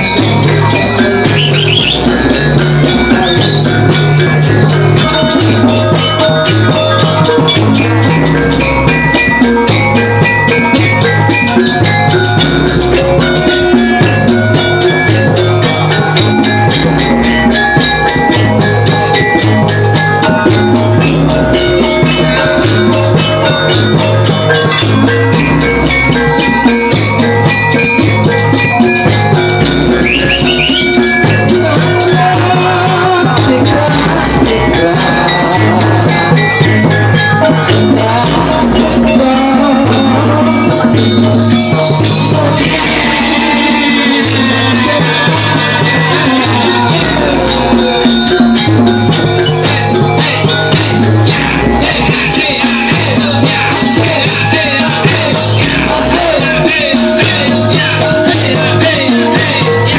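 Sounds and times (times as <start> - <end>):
drums: 0.0 - 59.9
ringing metallophone melody: 0.0 - 59.9.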